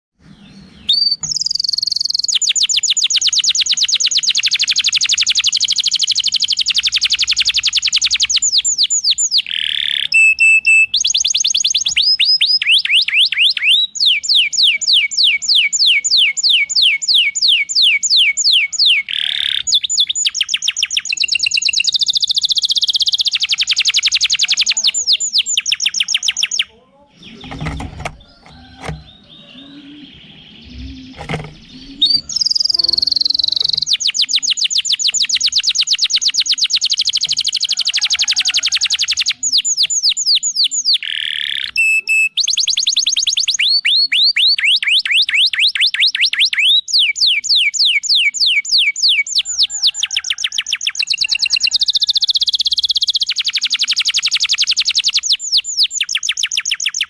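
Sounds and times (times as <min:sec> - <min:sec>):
canary singing trills: 0:00.2 - 0:57.0.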